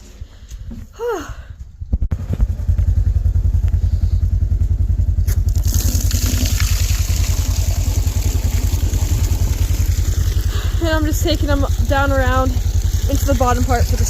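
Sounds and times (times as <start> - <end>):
small engine puttering: 2.2 - 14.0.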